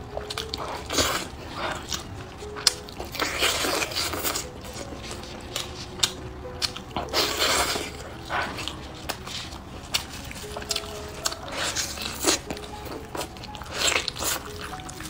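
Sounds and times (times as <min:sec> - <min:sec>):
biting and chewing meat: 0:00.0 - 0:15.0.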